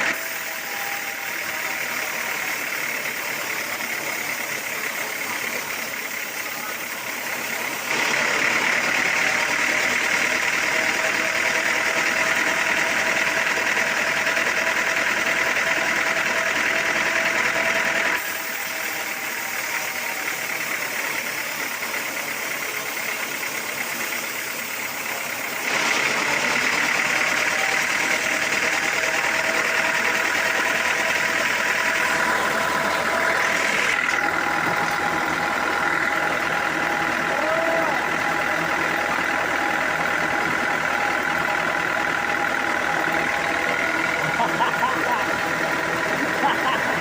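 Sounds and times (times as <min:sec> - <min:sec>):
sawmill machinery drone and whine: 0:00.0 - 0:47.0.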